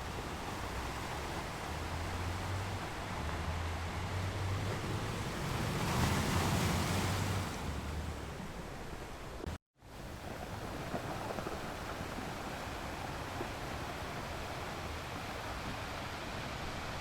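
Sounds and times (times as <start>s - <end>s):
ocean waves: 0.0s - 17.0s.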